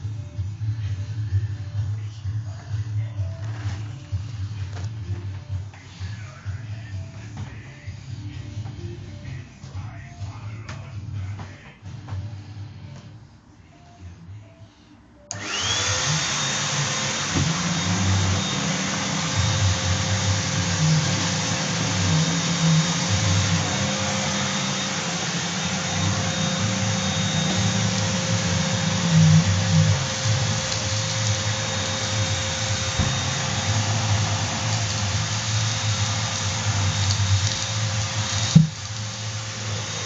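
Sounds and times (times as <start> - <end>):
vacuum cleaner running: 0.0 - 9.4, 15.3 - 40.0.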